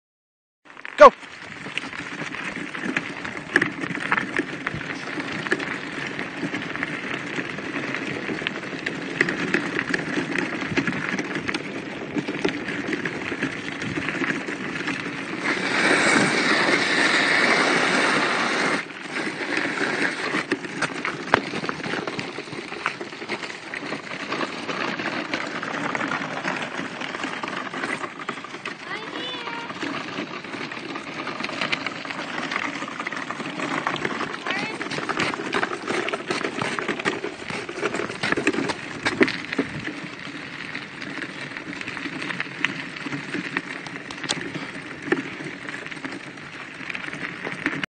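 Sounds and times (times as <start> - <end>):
wheels rolling on slushy road: 0.7 - 47.9.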